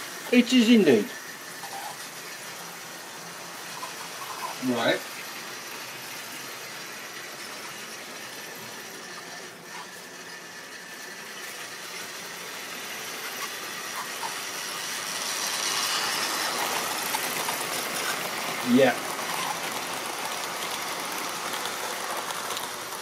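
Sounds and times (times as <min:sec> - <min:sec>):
model train running: 0:00.0 - 0:23.0.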